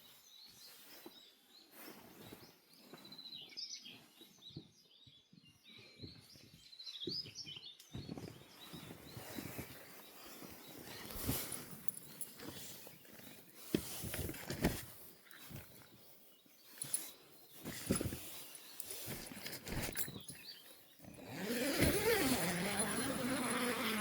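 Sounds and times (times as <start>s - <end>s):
birds singing and chirping: 0.3s - 24.0s.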